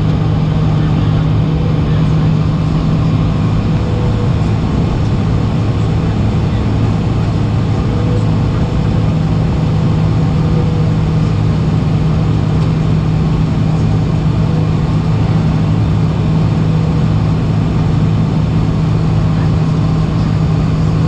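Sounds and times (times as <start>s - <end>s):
jet engines idling inside cabin: 0.0s - 21.0s.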